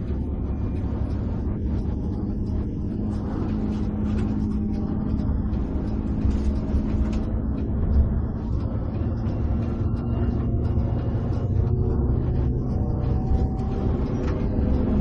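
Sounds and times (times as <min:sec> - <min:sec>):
bus engine hum: 0:00.0 - 0:15.0
road rumble: 0:00.0 - 0:15.0.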